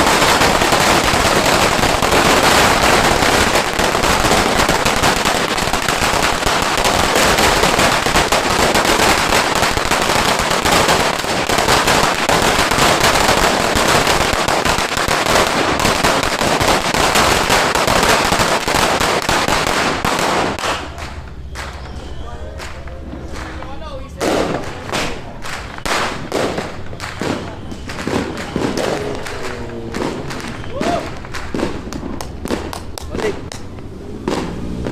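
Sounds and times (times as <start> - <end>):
firecrackers crackling: 0.0 - 34.9.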